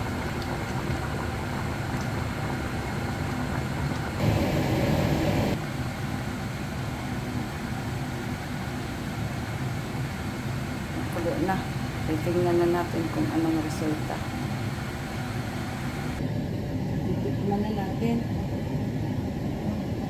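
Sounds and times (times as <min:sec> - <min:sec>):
broth boiling in a wok: 0:00.0 - 0:20.0
steady machine hum: 0:00.0 - 0:20.0.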